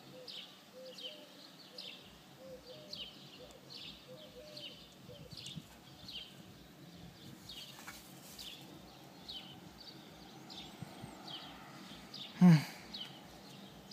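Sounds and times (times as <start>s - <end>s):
small bird chirping: 0.0s - 13.9s.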